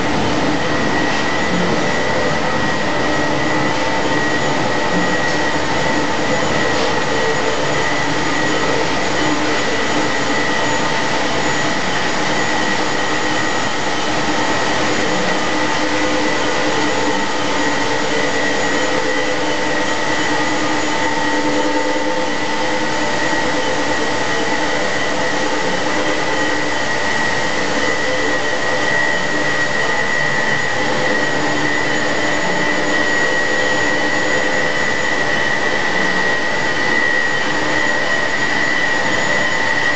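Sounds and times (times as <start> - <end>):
high machine whine: 0.0 - 39.9
industrial machinery roar: 0.0 - 39.9.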